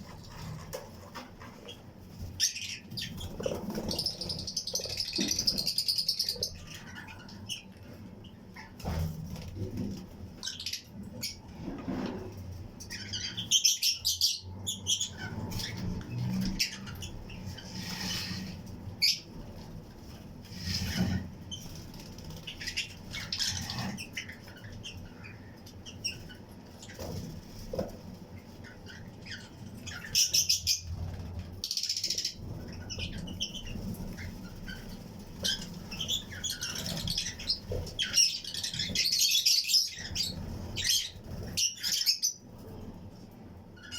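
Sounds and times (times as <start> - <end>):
lovebirds chirping: 0.0 - 8.8, 12.8 - 27.3, 28.3 - 42.5.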